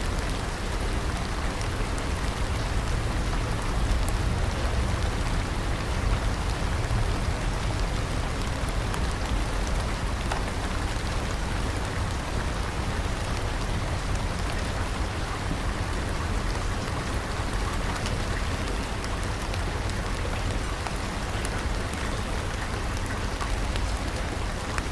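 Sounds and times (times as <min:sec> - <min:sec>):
rain drop ticks: 0:00.0 - 0:24.9
steady rain falling: 0:00.0 - 0:24.9.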